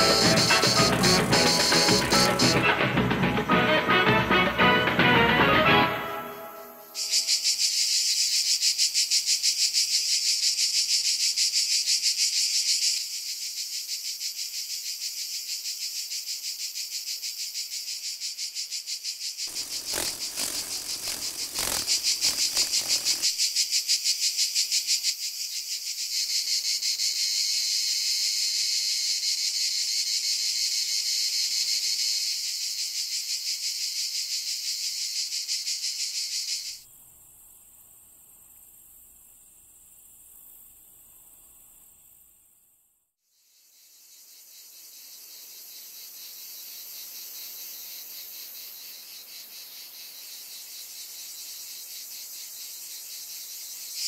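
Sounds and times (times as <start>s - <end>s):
cicadas buzzing: 0.0s - 2.9s, 6.6s - 42.8s, 43.4s - 54.0s.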